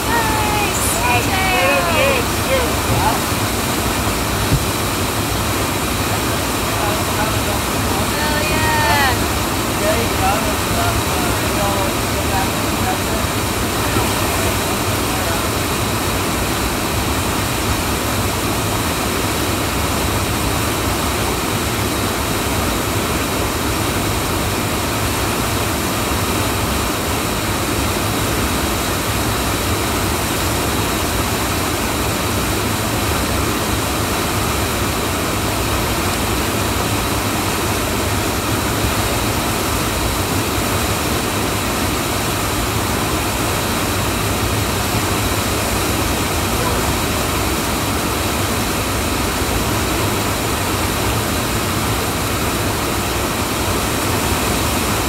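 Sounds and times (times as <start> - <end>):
river whitewater rushing: 0.0 - 55.0.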